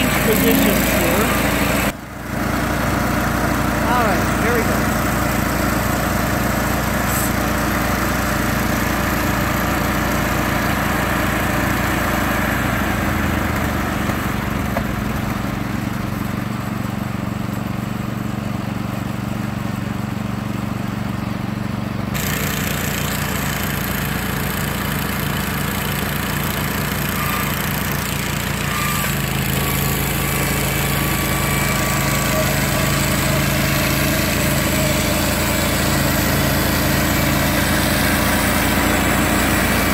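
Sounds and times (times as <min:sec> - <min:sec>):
bandsaw mill sawing log: 0:00.0 - 0:18.3, 0:22.2 - 0:39.9.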